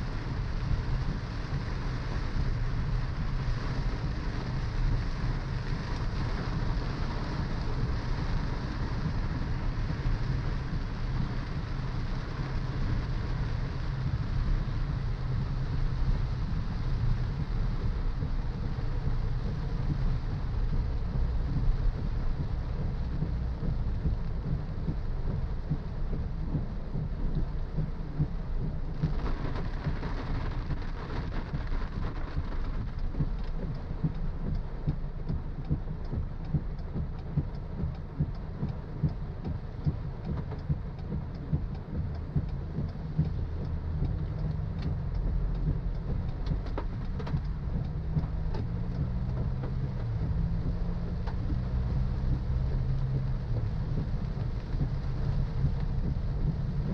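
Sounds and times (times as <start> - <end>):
rain hissing: 0.0 - 56.9
raindrops ticking on car: 0.0 - 56.9
road and engine rumble: 0.0 - 56.9.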